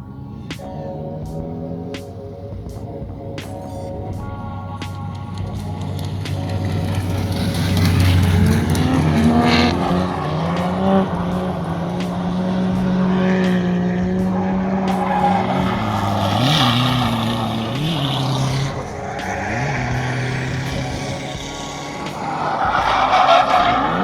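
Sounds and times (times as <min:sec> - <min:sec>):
pit bike motor revving: 0:00.0 - 0:24.0.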